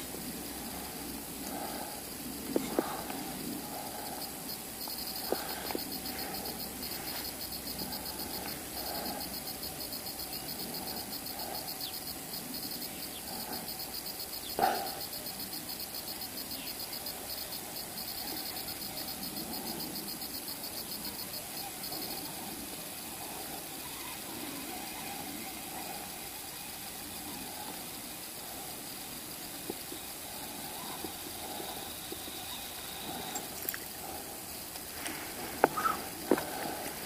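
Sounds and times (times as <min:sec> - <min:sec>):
faint outdoor hiss: 0:00.0 - 0:37.0
fast pulsing insect chirp: 0:00.0 - 0:37.0.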